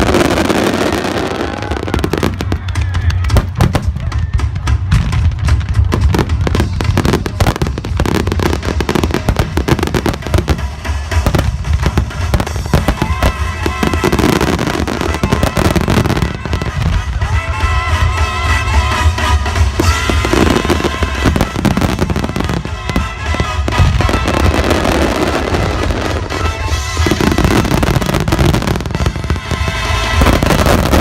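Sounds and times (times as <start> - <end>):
fireworks bursting and crackling: 0.0 - 31.0
music playing: 0.0 - 31.0.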